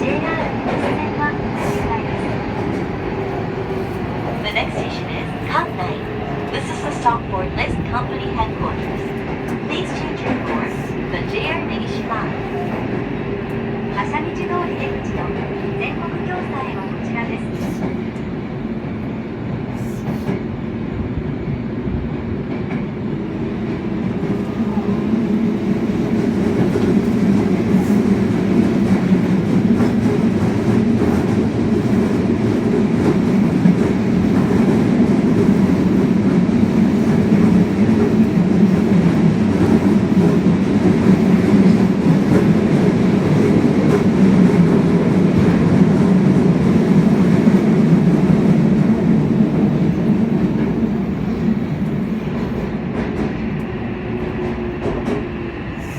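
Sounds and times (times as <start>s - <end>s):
train rumbling along track: 0.0s - 55.9s.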